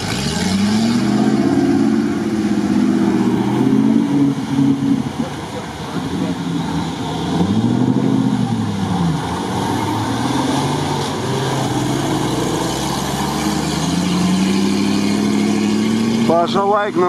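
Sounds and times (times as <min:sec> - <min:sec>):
buggy engine revving: 0:00.0 - 0:17.0
water churned by wheels: 0:00.0 - 0:17.0.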